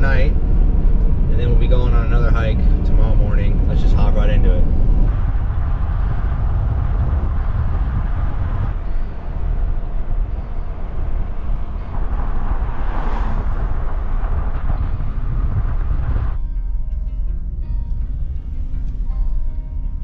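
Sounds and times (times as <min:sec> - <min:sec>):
deep low rumble: 0:00.0 - 0:20.0
road and wind noise: 0:00.0 - 0:20.0.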